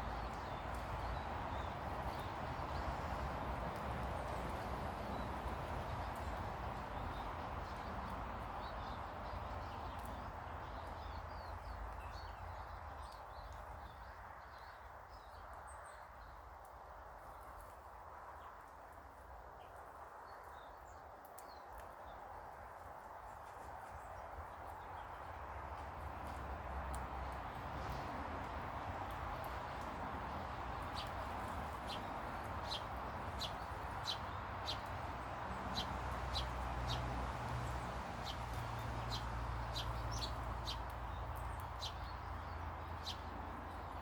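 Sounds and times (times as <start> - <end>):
small birds chirping: 0.0 - 18.8, 19.5 - 44.0.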